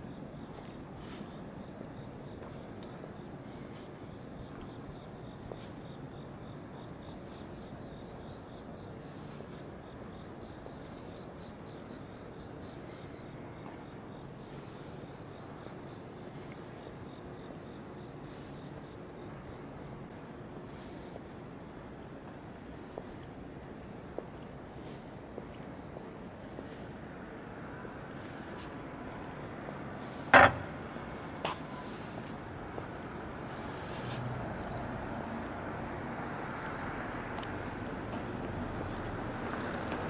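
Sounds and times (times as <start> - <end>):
crickets chirping: 0.0 - 40.0
distant traffic rumble: 0.0 - 40.0.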